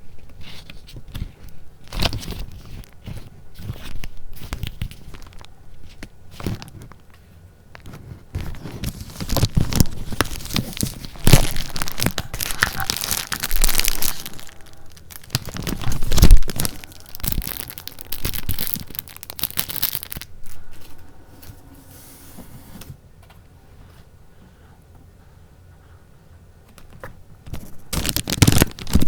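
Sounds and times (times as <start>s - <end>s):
paper rustling and crinkling: 0.0s - 23.0s, 26.9s - 29.0s.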